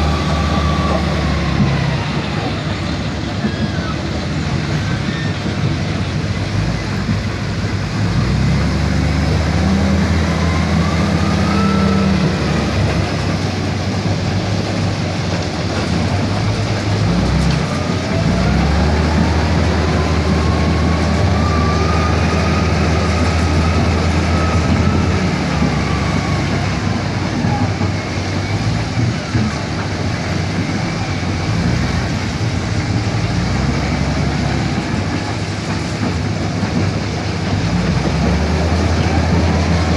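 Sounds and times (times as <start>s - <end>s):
truck engine running under load: 0.0s - 39.9s.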